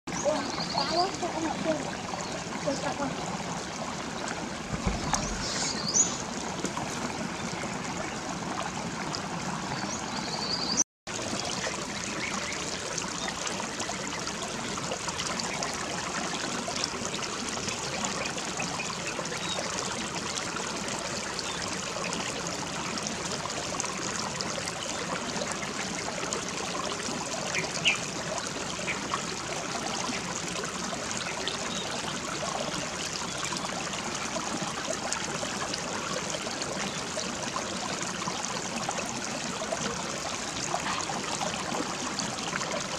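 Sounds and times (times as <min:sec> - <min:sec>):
stream trickling over rocks: 0:00.1 - 0:42.9.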